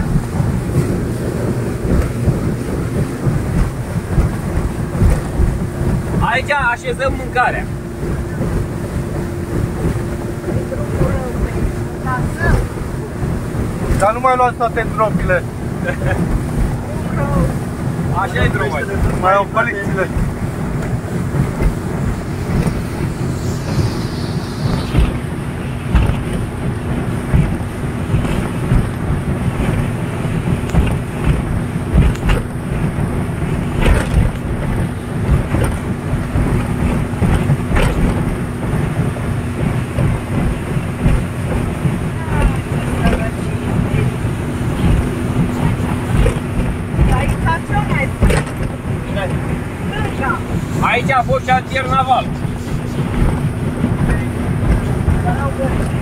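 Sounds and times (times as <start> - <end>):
boat engine rumbling: 0.0 - 56.0
rushing wind and water: 0.0 - 56.0
wind buffeting microphone: 0.0 - 56.0.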